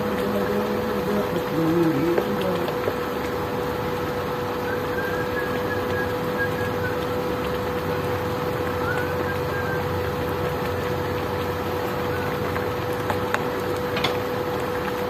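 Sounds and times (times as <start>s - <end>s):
cooling fan whirring hum: 0.0s - 15.0s.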